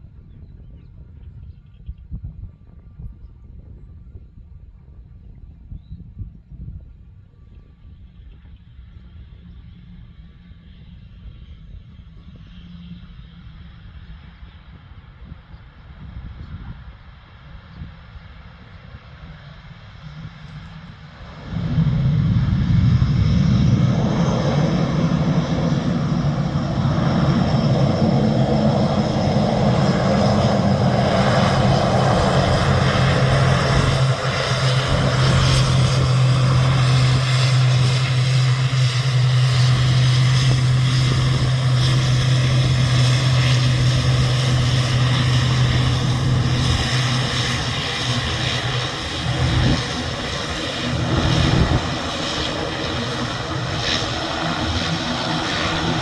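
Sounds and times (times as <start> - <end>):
airliner engines running: 0.0 - 56.0.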